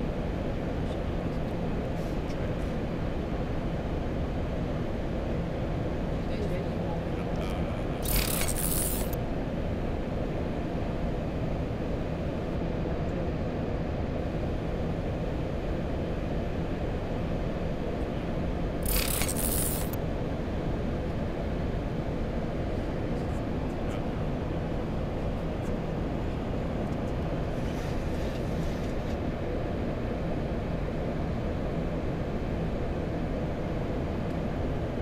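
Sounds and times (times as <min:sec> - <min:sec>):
aircraft cockpit rumble in flight: 0:00.0 - 0:18.9, 0:19.8 - 0:35.0.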